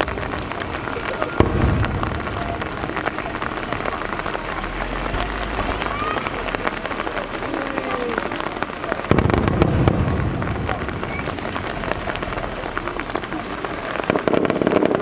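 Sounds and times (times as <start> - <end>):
deep firework burst: 0.0 - 15.0
rain pattering: 0.0 - 15.0.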